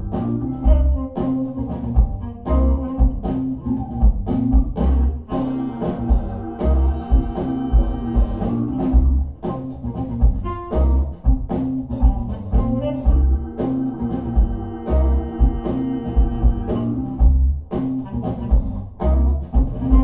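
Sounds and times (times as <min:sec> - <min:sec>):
music with drums and deep bass: 0:00.0 - 0:20.0.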